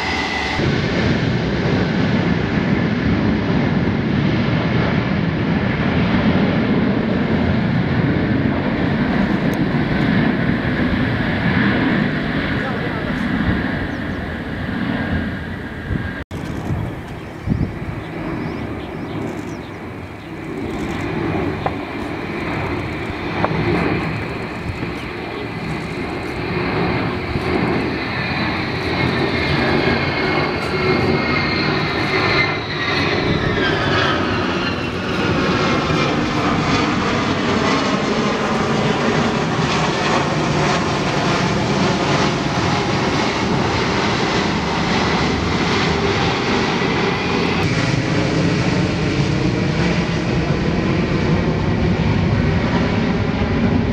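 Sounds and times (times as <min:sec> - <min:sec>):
high jet whine: 0:00.0 - 0:53.9
jet engines rumbling: 0:00.0 - 0:53.9.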